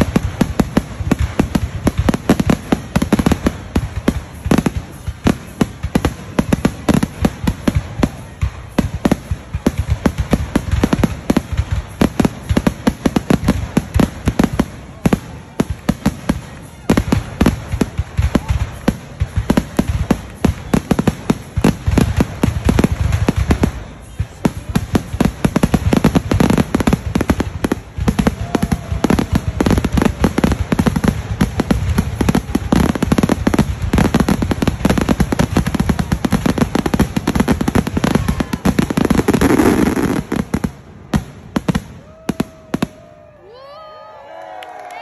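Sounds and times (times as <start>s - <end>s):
fireworks crackling: 0.0s - 45.0s.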